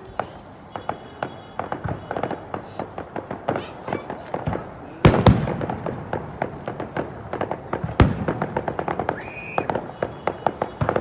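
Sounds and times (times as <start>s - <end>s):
fireworks crackling: 0.0s - 11.0s
fireworks big bang: 0.1s - 11.0s.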